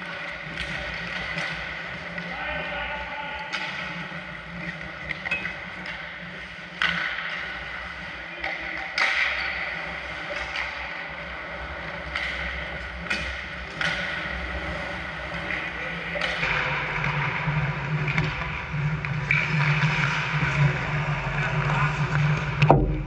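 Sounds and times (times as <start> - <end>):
hockey sticks knocking puck: 0.0 - 2.3, 3.4 - 20.9, 21.5 - 23.0
skates scraping on ice: 0.0 - 22.6.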